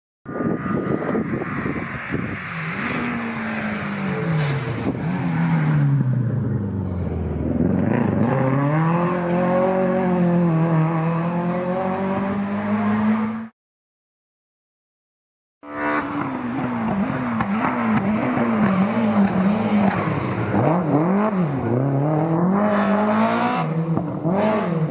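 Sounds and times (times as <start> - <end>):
rally car engine: 0.3 - 13.5, 15.6 - 24.9.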